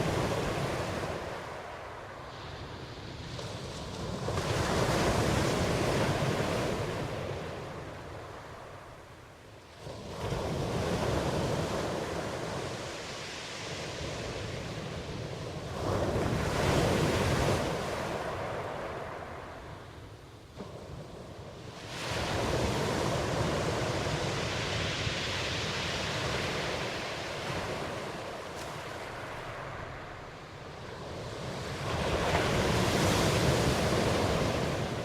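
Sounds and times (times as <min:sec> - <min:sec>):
ocean waves washing in: 0:00.0 - 0:35.0.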